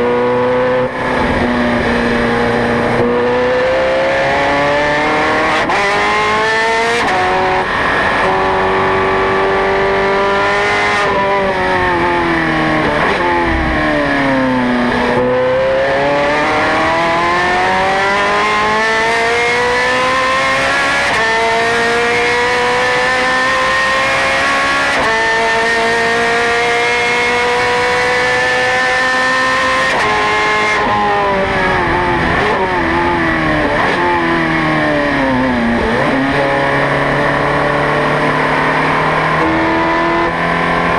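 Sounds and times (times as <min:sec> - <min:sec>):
racing car engine: 0:00.0 - 0:40.9.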